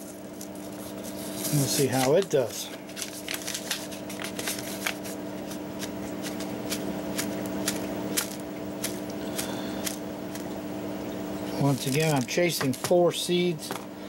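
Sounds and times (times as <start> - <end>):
paper and plastic bag crinkling: 0.0 - 10.5, 11.6 - 13.8
steady background hum: 0.0 - 14.0.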